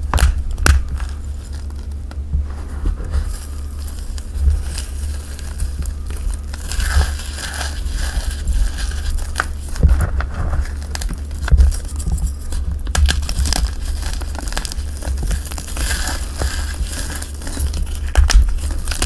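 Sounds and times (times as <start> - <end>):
chalk crushed by hand crackling: 0.0 - 19.0
low rumble of handling: 0.0 - 19.0.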